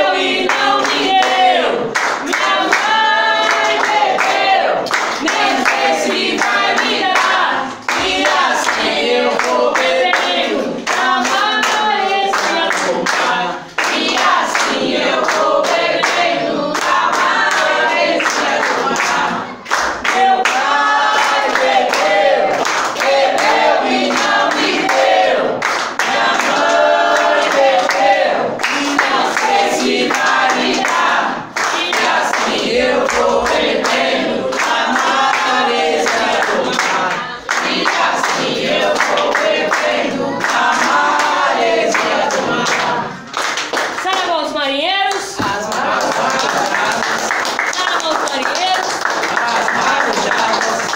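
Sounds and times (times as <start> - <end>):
group of voices singing: 0.0 - 50.9
hand clapping: 0.3 - 44.3, 45.1 - 50.9.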